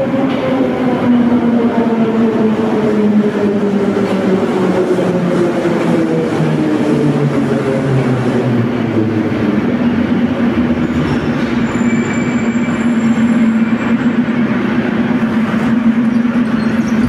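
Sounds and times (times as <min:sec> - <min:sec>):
continuous train rumble: 0:00.0 - 0:17.0.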